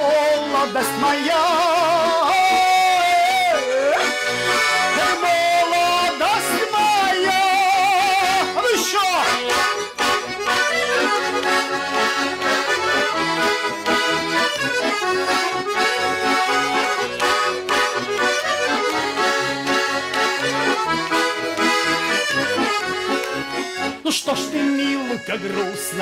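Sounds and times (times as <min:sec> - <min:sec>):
button accordion playing folk melody: 0:00.0 - 0:26.0.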